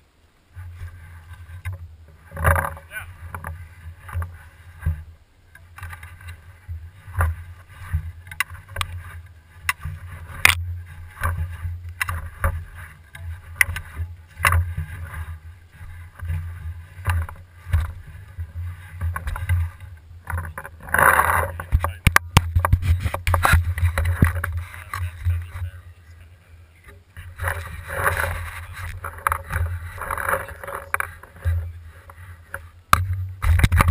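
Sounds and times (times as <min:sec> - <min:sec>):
steady low rumble: 0:00.0 - 0:33.6.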